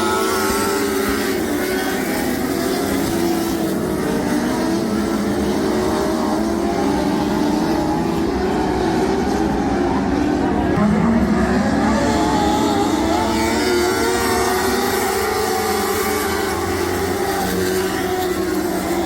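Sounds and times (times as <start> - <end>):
sprint car engines racing: 0.0 - 19.0.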